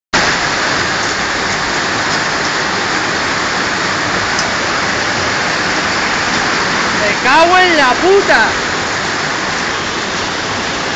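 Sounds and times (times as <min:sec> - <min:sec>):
hail and heavy rain pelting: 0:00.2 - 0:10.9.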